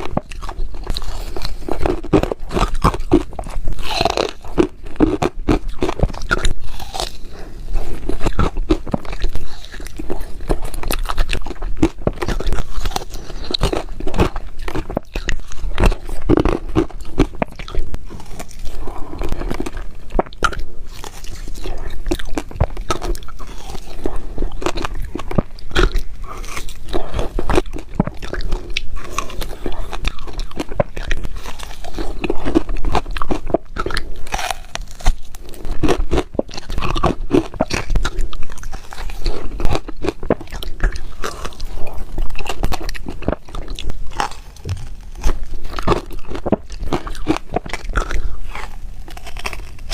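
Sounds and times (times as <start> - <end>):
ice crunching while chewed: 0.0 - 49.9.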